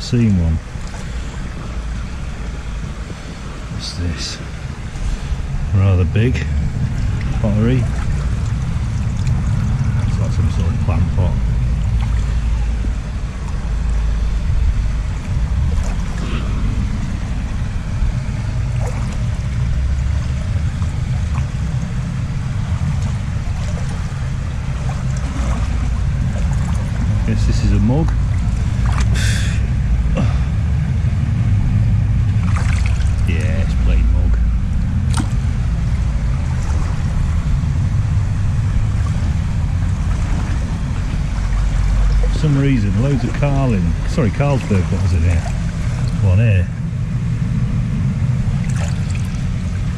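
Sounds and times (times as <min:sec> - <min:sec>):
faint water splashes: 0:00.0 - 0:49.9
low rumble on microphone: 0:00.0 - 0:49.9.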